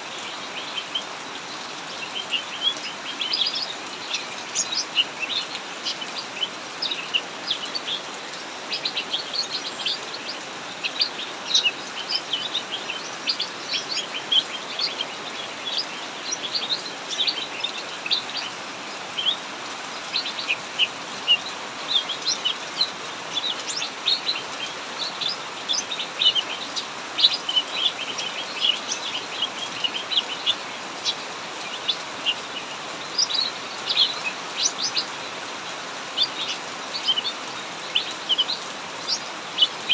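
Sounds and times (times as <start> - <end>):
birds chirping: 0.0 - 39.9
heavy rain hiss: 0.0 - 39.9.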